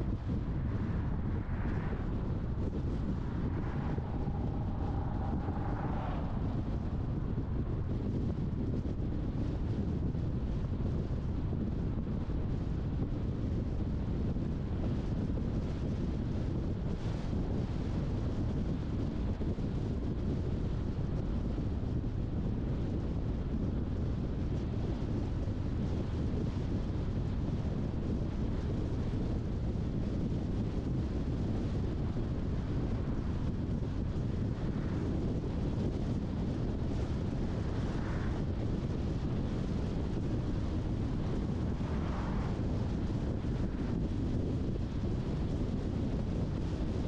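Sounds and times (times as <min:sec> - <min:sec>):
car tyre and road noise: 0:00.0 - 0:47.0.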